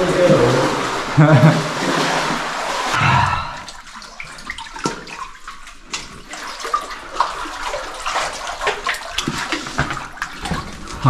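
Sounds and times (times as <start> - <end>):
water sloshing from wading: 0.0 - 11.0
water trickling: 0.0 - 11.0.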